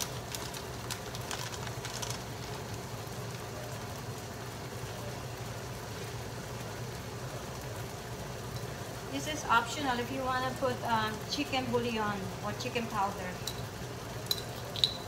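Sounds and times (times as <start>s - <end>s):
chicken frying in oil: 0.0s - 15.0s
oil crackling: 0.0s - 15.0s.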